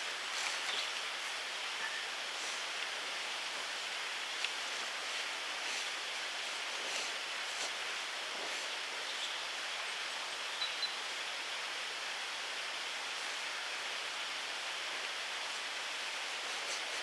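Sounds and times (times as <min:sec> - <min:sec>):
woodland ambience hiss: 0:00.0 - 0:17.0.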